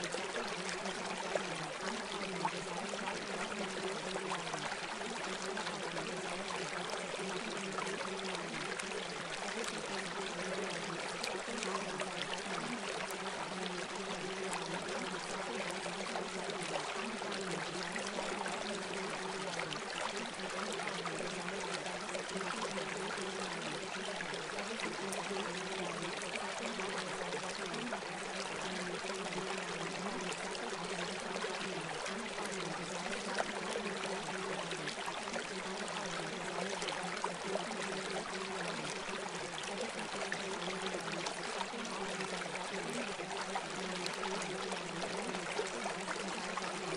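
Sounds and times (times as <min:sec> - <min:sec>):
running water: 0:00.0 - 0:46.9.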